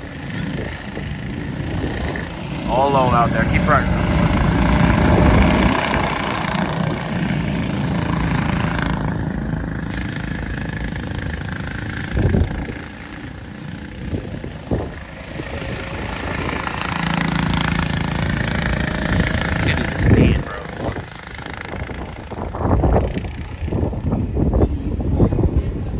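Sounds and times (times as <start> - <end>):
go-kart engines racing past: 0.0 - 25.9.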